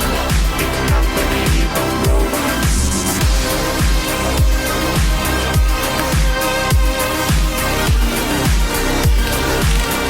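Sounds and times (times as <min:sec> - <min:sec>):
electronic dance music: 0:00.0 - 0:10.0
heavy kick drum: 0:00.0 - 0:10.0.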